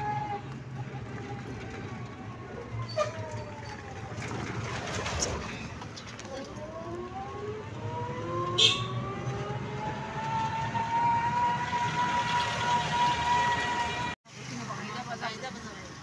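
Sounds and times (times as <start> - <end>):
vehicle rumble and motor whine: 0.0 - 14.2.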